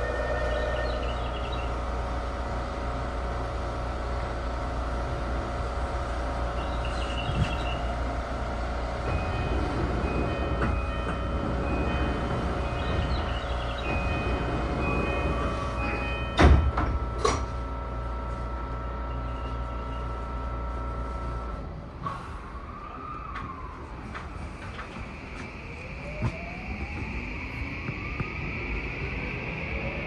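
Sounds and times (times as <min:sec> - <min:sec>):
train motors humming: 0:00.0 - 0:30.0
wheels rumbling on rails: 0:00.0 - 0:30.0.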